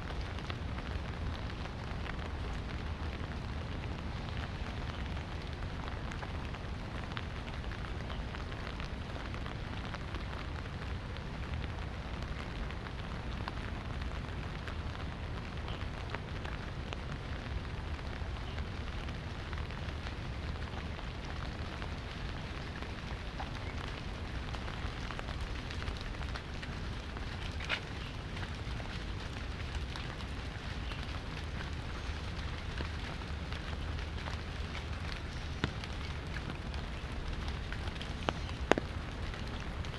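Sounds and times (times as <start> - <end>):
light rain pattering: 0.0 - 39.9
sharp raindrop: 0.0 - 39.9.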